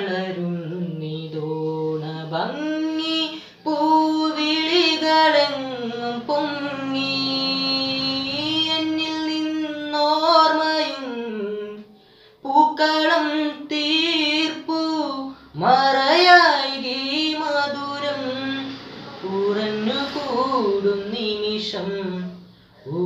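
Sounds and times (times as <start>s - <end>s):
boy singing solo: 0.0s - 23.0s.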